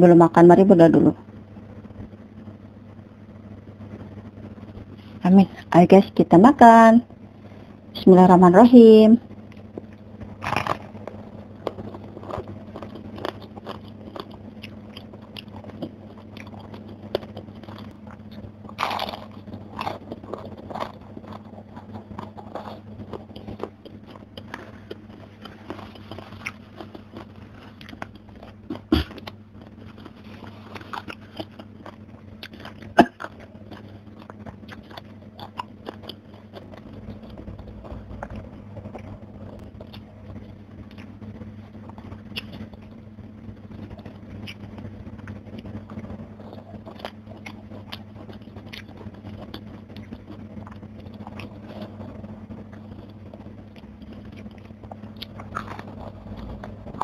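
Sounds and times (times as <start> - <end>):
faint low hum: 0.0 - 57.0
crunching fried fish: 8.7 - 57.0.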